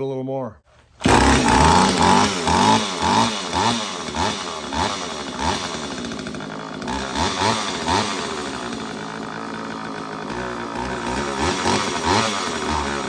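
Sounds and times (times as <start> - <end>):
chainsaw engine revving: 0.9 - 13.0.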